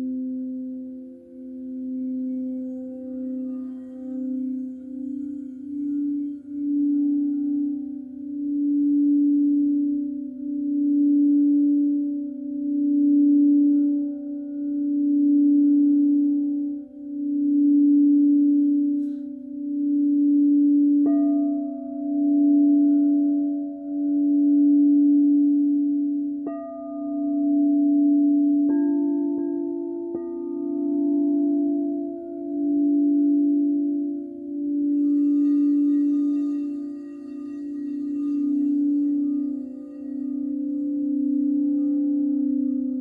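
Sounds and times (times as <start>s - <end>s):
higher singing bowl tone: 0.0s - 43.0s
low singing bowl tone: 0.0s - 43.0s.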